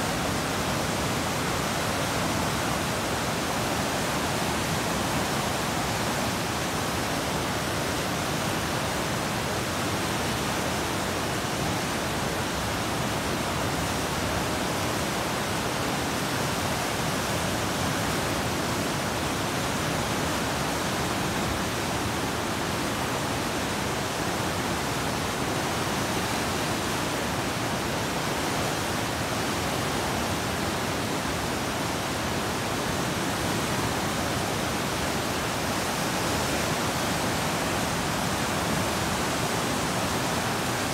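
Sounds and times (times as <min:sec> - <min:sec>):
river water rushing over weir: 0:00.0 - 0:40.9.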